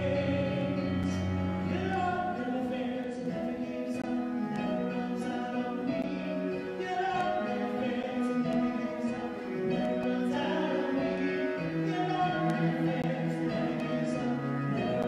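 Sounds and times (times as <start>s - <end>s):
bowed cello: 0.0s - 15.0s
keyboard: 0.0s - 15.0s
woman and man singing: 0.0s - 15.0s.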